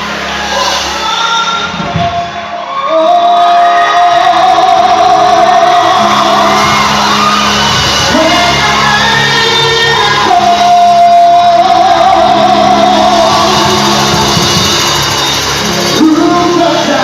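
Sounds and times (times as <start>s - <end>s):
band playing gospel music: 0.0s - 17.0s.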